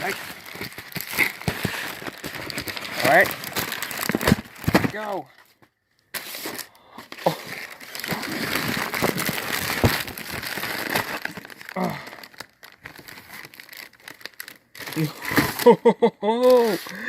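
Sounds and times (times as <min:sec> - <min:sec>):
packaging crinkling: 0:00.0 - 0:05.2, 0:06.2 - 0:15.8, 0:16.4 - 0:17.0.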